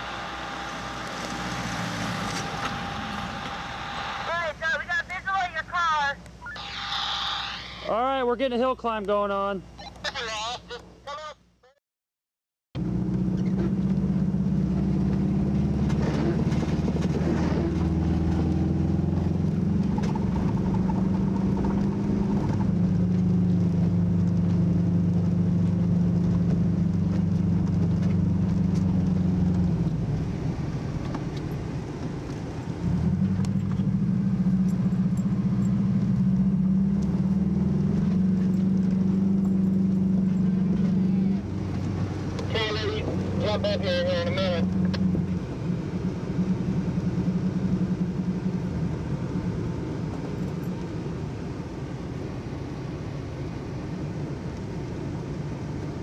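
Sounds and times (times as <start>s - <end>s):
car engine drone: 0.0s - 9.4s, 12.8s - 56.0s.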